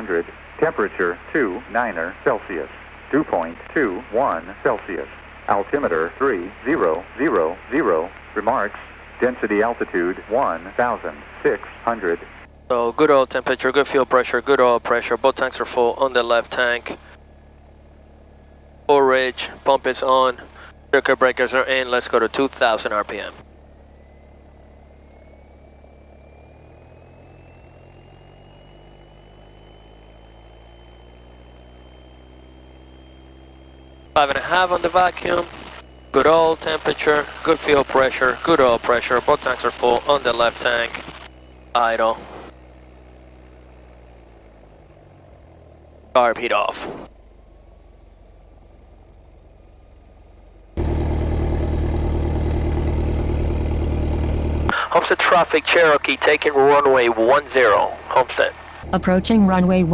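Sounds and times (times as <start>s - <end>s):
light aircraft engine drone: 0.0s - 59.9s
thin high whine: 0.0s - 59.9s.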